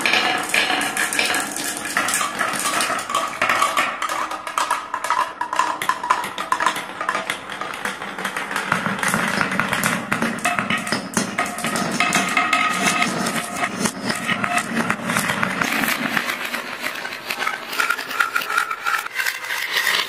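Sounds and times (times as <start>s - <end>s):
marbles clattering down tracks: 0.0s - 20.0s.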